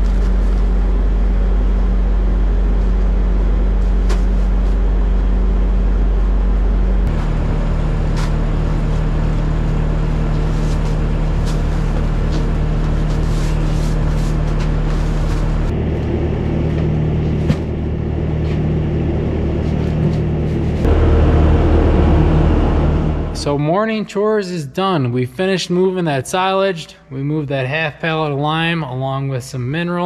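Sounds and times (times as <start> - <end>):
engine running: 0.0 - 24.2.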